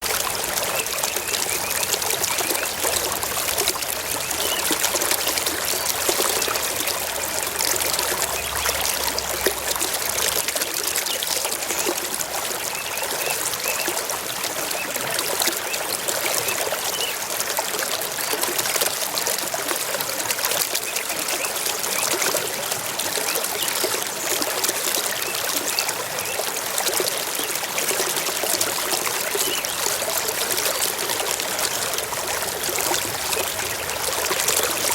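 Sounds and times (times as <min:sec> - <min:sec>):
stream trickling and babbling: 0:00.0 - 0:34.9.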